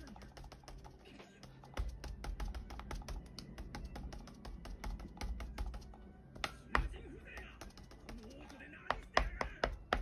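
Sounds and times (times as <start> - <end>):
quiet background music: 0.0 - 10.0
foam tool tapping on paper: 1.5 - 10.0.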